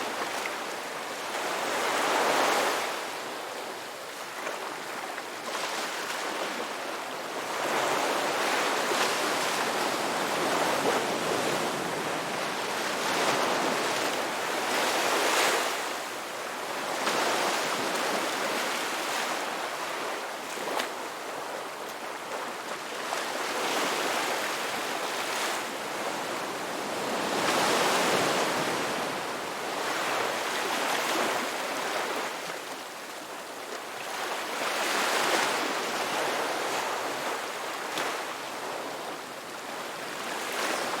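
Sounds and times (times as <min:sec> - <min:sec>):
ocean waves breaking on shore: 0:00.0 - 0:41.0.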